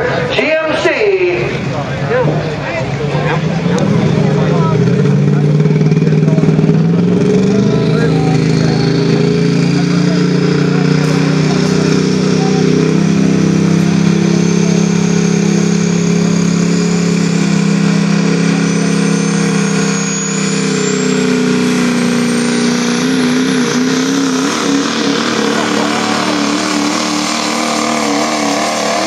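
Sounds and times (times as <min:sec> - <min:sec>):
diesel truck engine running hard: 0:00.0 - 0:29.0
turbo whine: 0:02.4 - 0:29.0.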